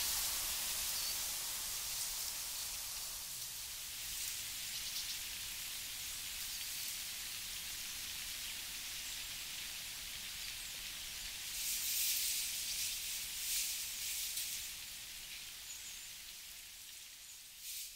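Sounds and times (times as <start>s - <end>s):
steady high hiss: 0.0s - 17.9s.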